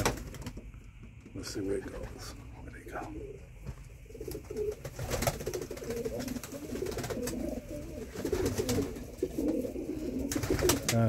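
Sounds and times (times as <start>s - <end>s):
pigeons cooing: 1.7s - 11.0s.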